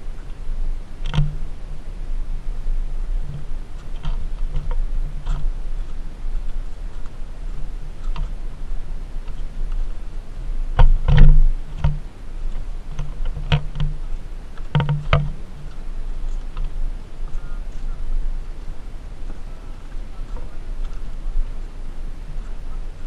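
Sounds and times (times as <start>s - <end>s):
low rumble: 0.0s - 23.0s
footsteps on bamboo slats: 3.2s - 23.0s.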